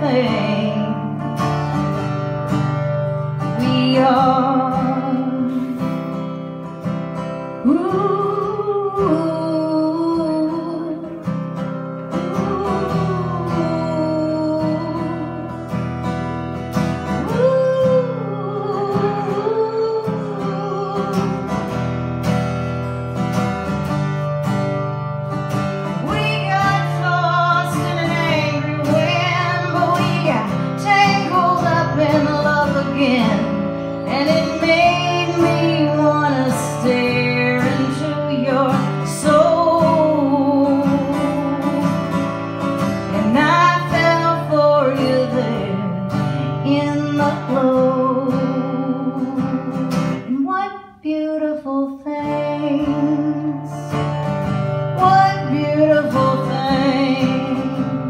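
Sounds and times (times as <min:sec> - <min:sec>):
woman singing: 0:00.0 - 0:06.4, 0:07.4 - 0:22.1, 0:25.5 - 0:58.0
strummed acoustic guitar: 0:00.0 - 0:58.0.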